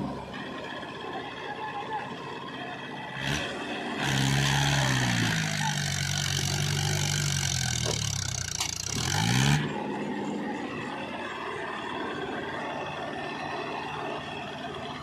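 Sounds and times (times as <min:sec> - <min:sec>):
tractor diesel engine revving: 0:02.3 - 0:15.0.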